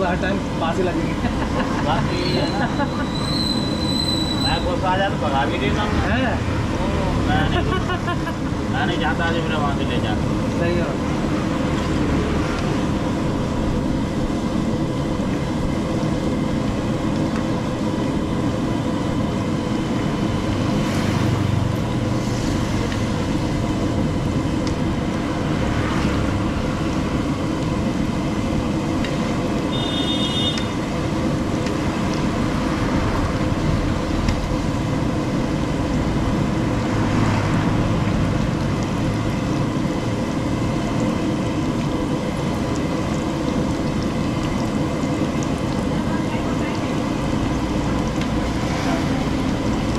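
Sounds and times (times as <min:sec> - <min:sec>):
oil sizzling and bubbling: 0:00.0 - 0:49.9.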